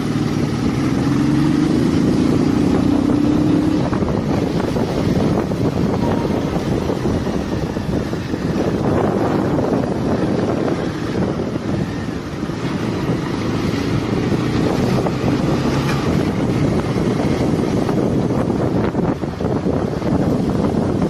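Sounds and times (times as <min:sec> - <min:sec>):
motorcycle engine running: 0:00.0 - 0:21.0
wind buffeting on microphone: 0:00.0 - 0:21.0.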